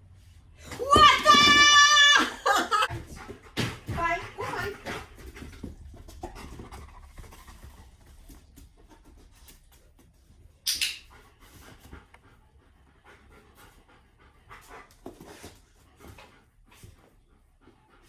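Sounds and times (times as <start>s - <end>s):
dog panting: 2.8s - 18.0s.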